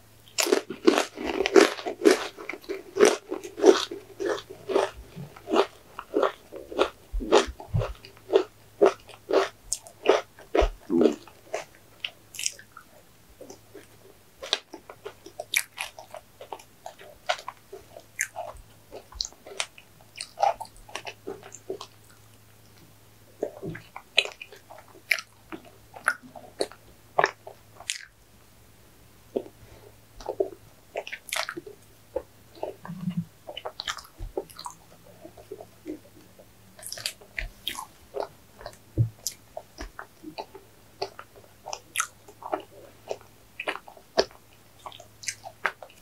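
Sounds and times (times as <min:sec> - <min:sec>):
faint low hum: 0:00.0 - 0:46.0
chewing and crunching: 0:00.3 - 0:28.2, 0:29.3 - 0:46.0.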